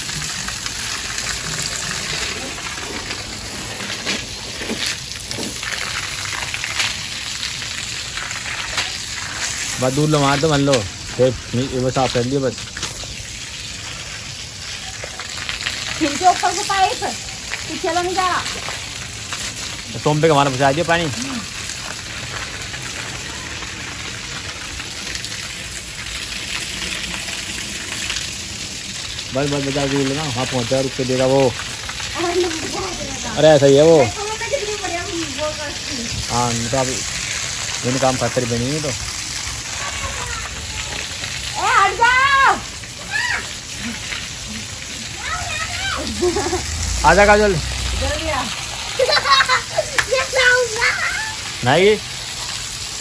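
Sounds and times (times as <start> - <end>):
hose water splashing on concrete: 0.0 - 53.0.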